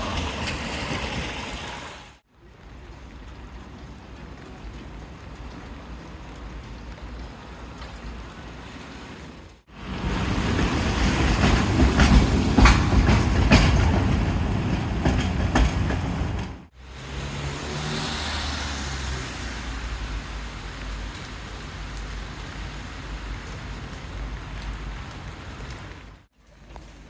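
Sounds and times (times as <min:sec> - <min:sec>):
vehicle passing on wet road: 0:00.0 - 0:13.5, 0:16.7 - 0:27.0
heavy rain on a street: 0:00.0 - 0:15.2, 0:16.7 - 0:27.0
low traffic hum: 0:00.0 - 0:27.0.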